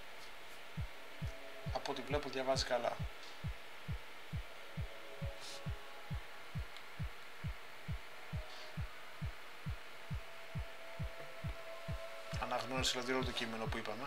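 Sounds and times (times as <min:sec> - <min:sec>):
faint hum: 0:00.0 - 0:14.0
soft hiss: 0:00.0 - 0:14.0
low thumping beat: 0:00.7 - 0:14.0.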